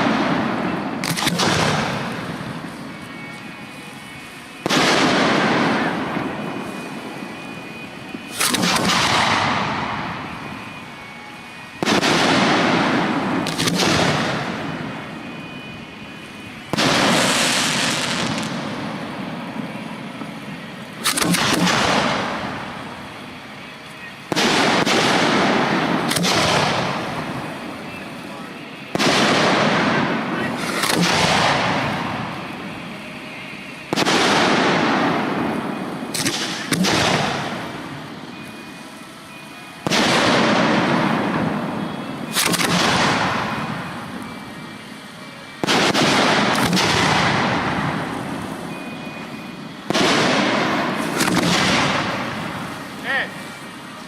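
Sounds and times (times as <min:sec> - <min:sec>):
sharp firework cracks: 0:00.0 - 0:03.3, 0:04.0 - 0:15.7, 0:16.3 - 0:23.5, 0:24.3 - 0:28.0, 0:28.8 - 0:32.9, 0:33.7 - 0:38.5, 0:39.3 - 0:44.5, 0:45.5 - 0:48.7, 0:49.4 - 0:53.5
firework shell bursts: 0:00.0 - 0:23.5, 0:24.2 - 0:28.1, 0:28.8 - 0:33.1, 0:33.7 - 0:44.8, 0:45.6 - 0:53.8
crackle and rumble: 0:00.0 - 0:54.0.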